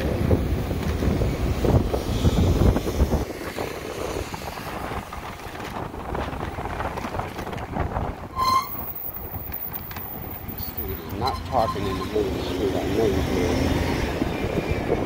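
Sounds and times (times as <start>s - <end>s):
wind buffeting microphone: 0.0s - 11.2s, 12.0s - 15.0s
street traffic noise: 0.0s - 15.0s.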